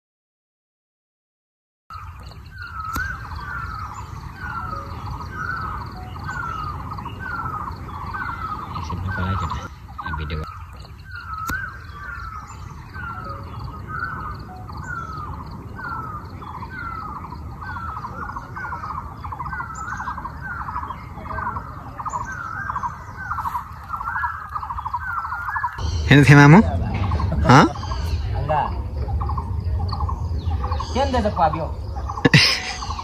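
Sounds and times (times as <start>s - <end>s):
bird calling with rattle: 1.9s - 33.0s
low background rumble: 2.0s - 33.0s.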